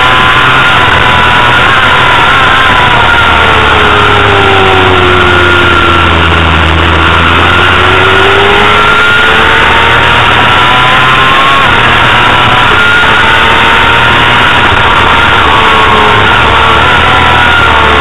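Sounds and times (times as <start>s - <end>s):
motorcycle race engine: 0.0s - 18.0s.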